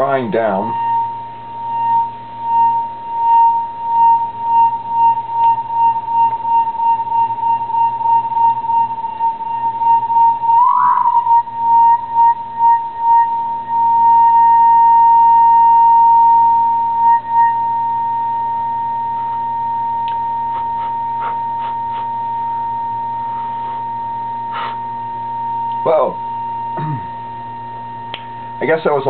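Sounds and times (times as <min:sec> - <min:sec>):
high test tone: 0:00.0 - 0:29.0
short rising chirp: 0:00.7 - 0:27.6.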